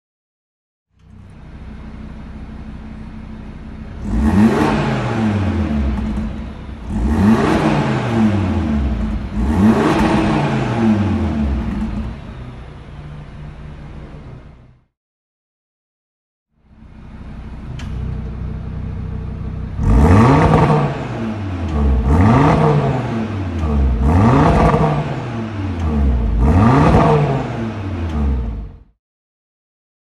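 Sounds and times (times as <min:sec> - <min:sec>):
car engine idling and revving: 0:01.0 - 0:14.9, 0:16.6 - 0:29.0.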